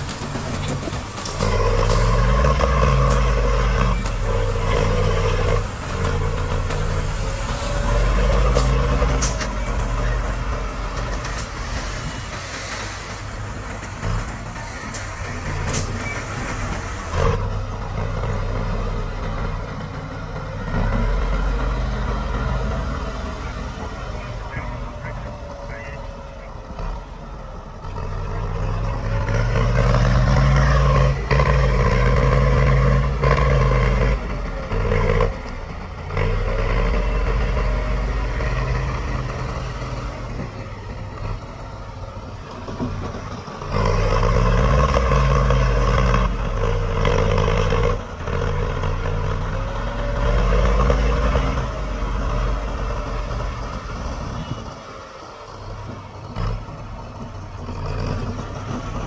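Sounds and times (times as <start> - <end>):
diesel engine revving under load: 0.0 - 59.0.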